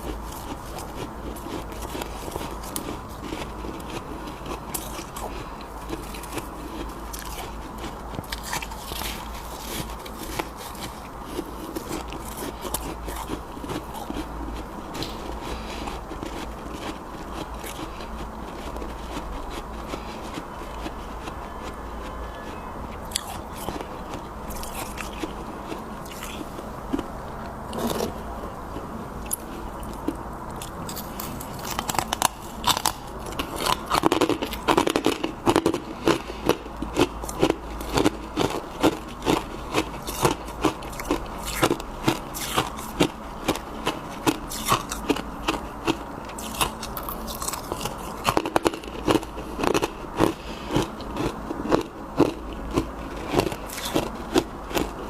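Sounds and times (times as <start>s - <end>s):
crackles and scrapes: 0.0s - 22.6s, 23.2s - 55.0s
chewing frost crunching: 0.0s - 55.0s.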